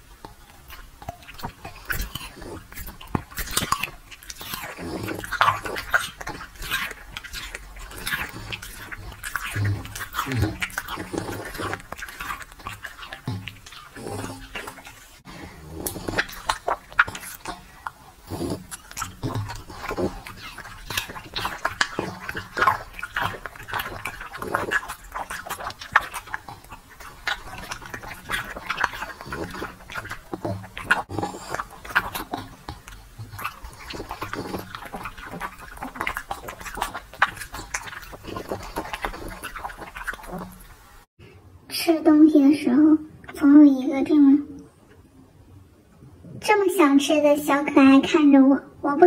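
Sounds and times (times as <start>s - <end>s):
dog chewing food: 0.0s - 41.1s.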